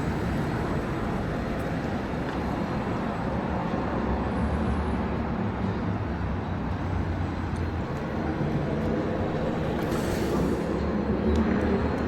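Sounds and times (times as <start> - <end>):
city background noise: 0.0 - 12.0.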